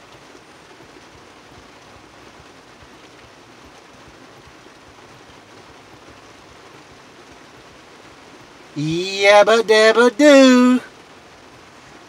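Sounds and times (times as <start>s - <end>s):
heavy rain on truck cab: 0.0s - 12.0s.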